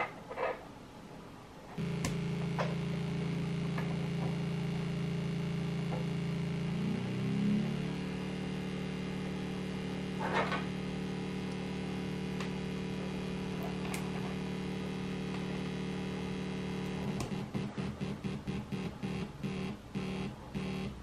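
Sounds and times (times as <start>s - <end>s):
sharp clicks of cables: 1.8s - 6.6s, 7.8s - 15.9s, 16.8s - 20.9s
scratchy crackle: 1.8s - 19.8s
low buzzy oscillator drone: 1.8s - 21.0s.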